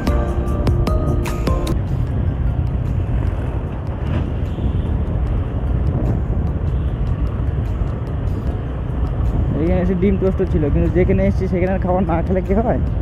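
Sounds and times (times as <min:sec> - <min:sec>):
vehicle and road noise: 0:00.0 - 0:13.0
wind rumble on microphone: 0:01.7 - 0:13.0.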